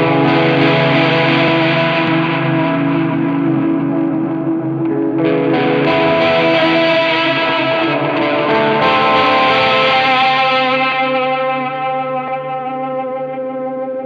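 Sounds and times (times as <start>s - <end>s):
electric guitar with echo: 0.0s - 14.0s.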